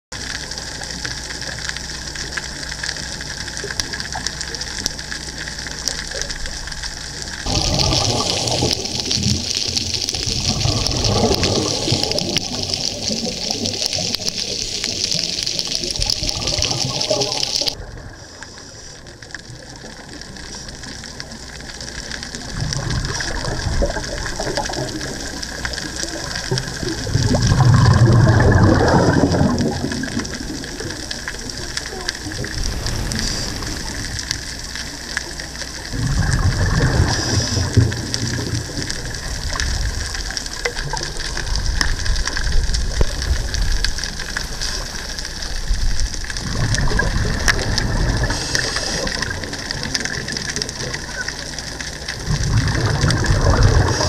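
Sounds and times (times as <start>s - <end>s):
underwater bubbling: 0.1s - 54.0s
water hiss: 7.4s - 19.8s, 22.4s - 54.0s.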